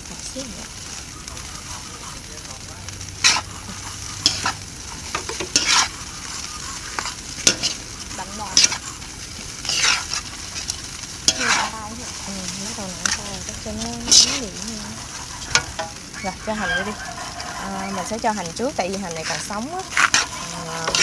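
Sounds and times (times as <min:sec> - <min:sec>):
fried rice sizzling in a pan: 0:00.0 - 0:21.0
spatula scraping a pan: 0:03.0 - 0:21.0.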